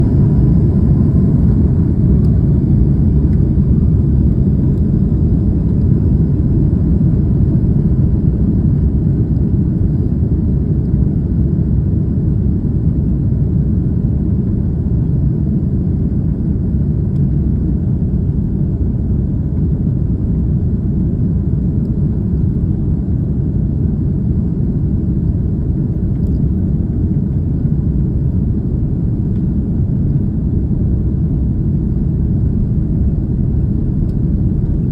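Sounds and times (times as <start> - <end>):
jet airliner engines rumbling: 0.0 - 34.9.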